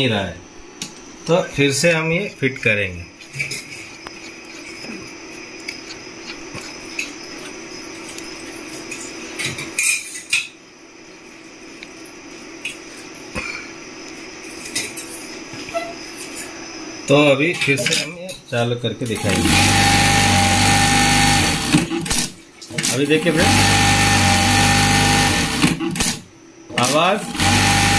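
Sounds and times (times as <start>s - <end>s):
background hum: 0.0s - 27.4s.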